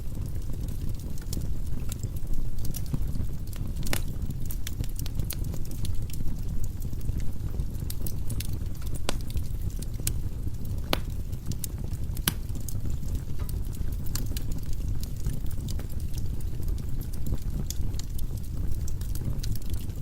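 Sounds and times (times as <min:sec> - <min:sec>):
fire crackling: 0:00.0 - 0:20.0.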